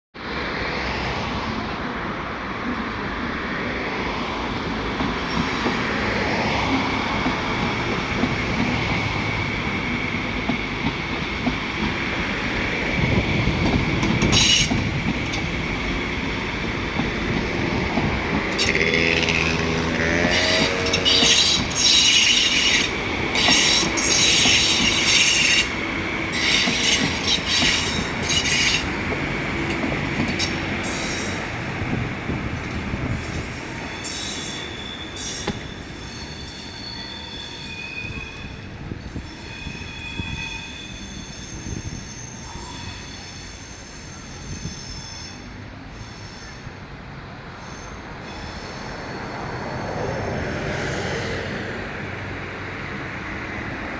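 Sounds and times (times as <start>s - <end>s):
train wheels squealing on rails: 2.7s - 53.9s.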